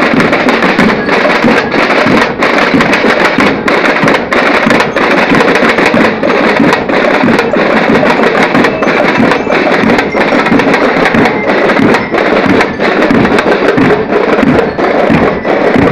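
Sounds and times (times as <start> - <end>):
drum line playing fast cadence: 0.0 - 15.9.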